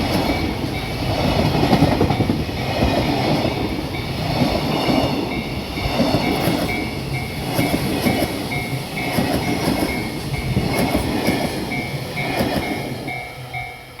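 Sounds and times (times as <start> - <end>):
train wheels clacking over rail joints: 0.0 - 13.7
level-crossing warning bell: 0.0 - 14.0.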